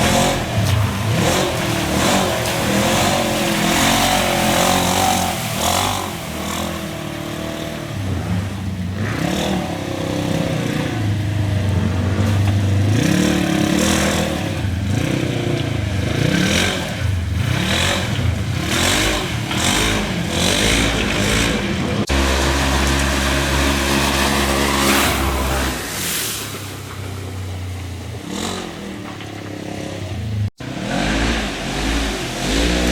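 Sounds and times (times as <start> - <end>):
utv engine revving: 0.0 - 32.9.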